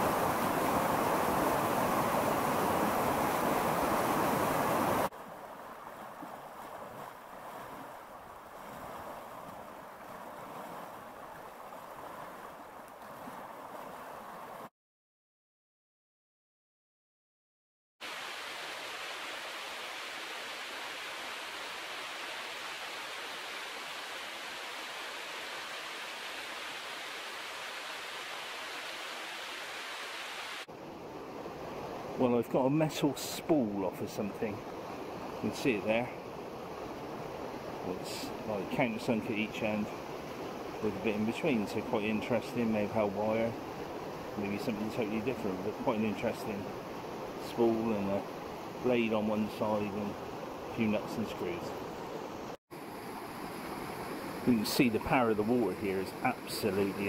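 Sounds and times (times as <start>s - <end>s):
rushing river water: 0.0s - 14.7s, 18.0s - 57.0s.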